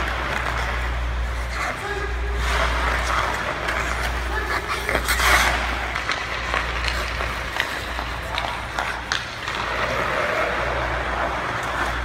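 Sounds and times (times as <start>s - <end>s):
skate blades scraping on ice: 0.0s - 12.0s.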